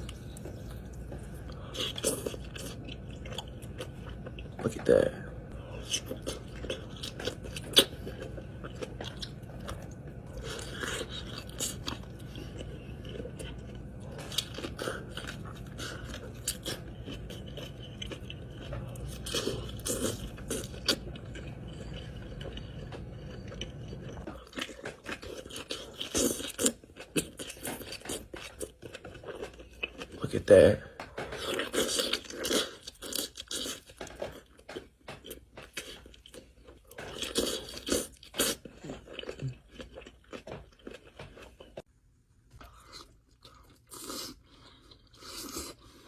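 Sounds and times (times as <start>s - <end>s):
person chewing and crunching: 0.0s - 41.9s, 42.6s - 46.0s.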